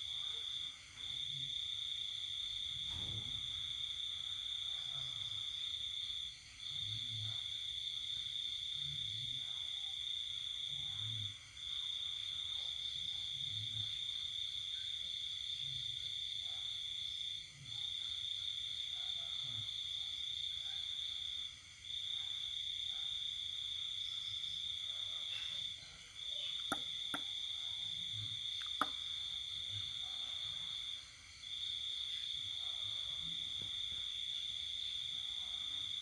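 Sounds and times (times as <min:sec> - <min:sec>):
cricket trilling: 0:00.0 - 0:36.0.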